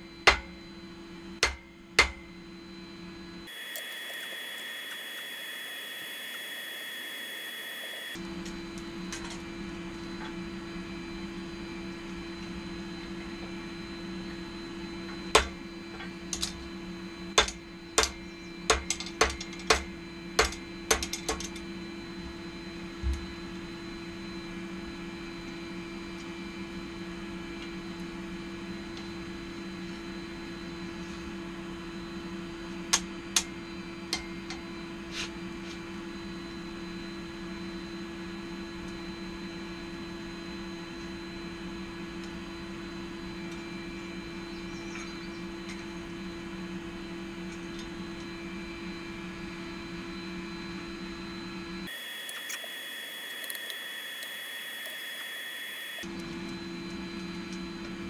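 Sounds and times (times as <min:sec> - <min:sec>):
forge air blower humming: 0:00.0 - 0:58.0.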